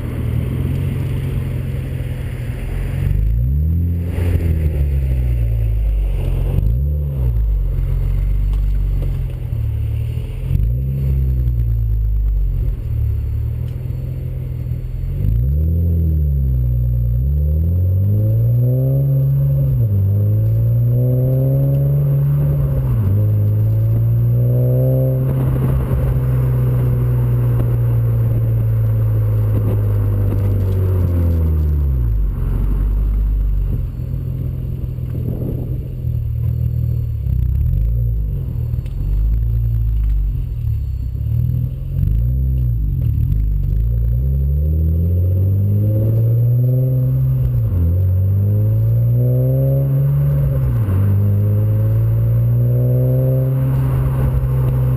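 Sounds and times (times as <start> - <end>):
car exhaust revving: 0.0 - 54.9.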